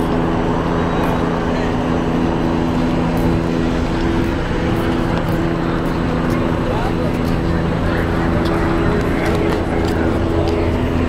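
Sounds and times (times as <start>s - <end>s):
large engine droning: 0.0s - 11.0s
rushing noise: 0.0s - 11.0s.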